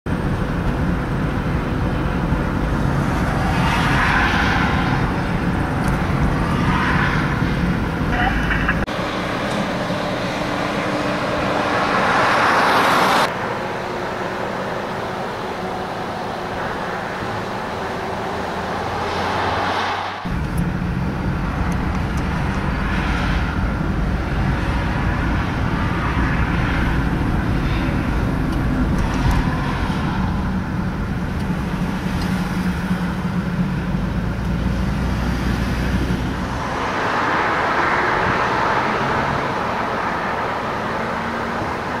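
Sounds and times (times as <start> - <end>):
car road and engine rumble: 0.1 - 42.0
vehicle rushing past: 2.5 - 14.8, 16.6 - 30.9, 34.0 - 42.0.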